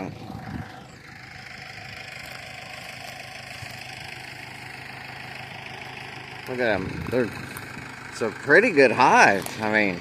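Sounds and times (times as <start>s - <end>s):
mower engine idling: 0.0s - 10.0s.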